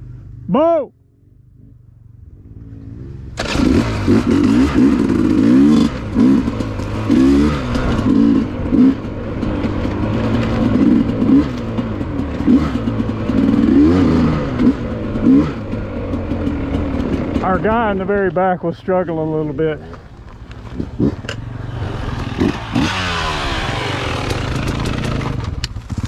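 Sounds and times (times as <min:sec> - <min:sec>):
dirt bike engine revving: 0:01.5 - 0:26.0.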